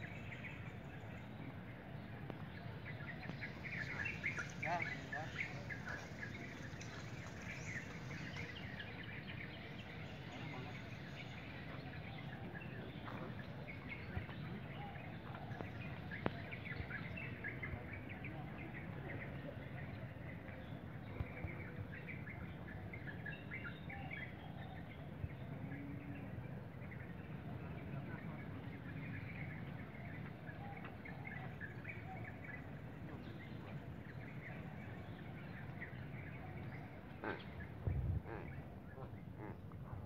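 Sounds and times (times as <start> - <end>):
low background noise: 0.0 - 40.0.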